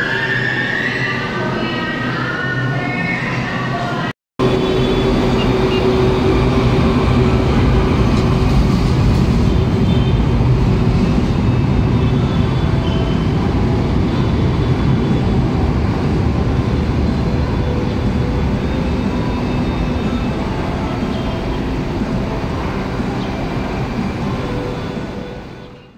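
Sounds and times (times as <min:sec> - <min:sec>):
light rail train rumbling: 0:00.0 - 0:25.9.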